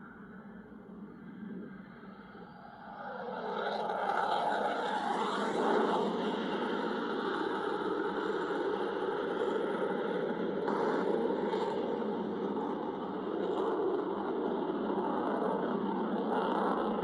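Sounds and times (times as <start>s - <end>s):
aircraft engines flying overhead: 0.0s - 17.0s.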